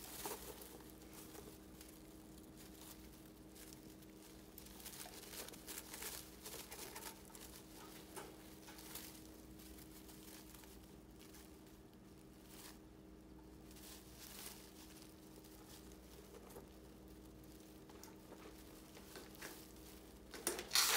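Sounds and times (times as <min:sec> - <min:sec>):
dry hay rustling and crackling: 0:00.0 - 0:20.9
faint steady hum: 0:00.0 - 0:20.9.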